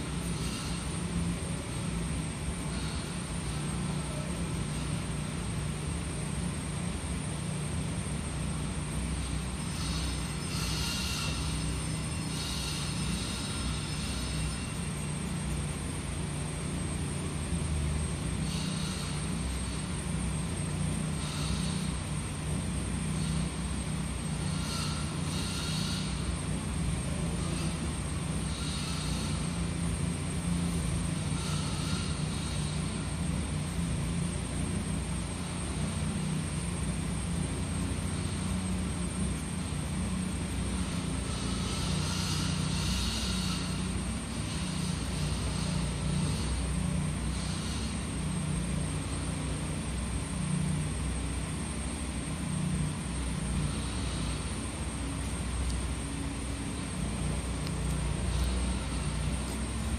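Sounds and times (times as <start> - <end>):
faint hiss: 0.0 - 59.9
low mechanical hum: 0.0 - 59.9.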